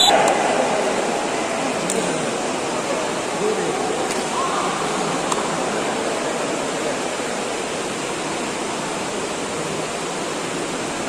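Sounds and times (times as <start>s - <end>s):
crowd hubbub indoors: 0.0s - 11.0s.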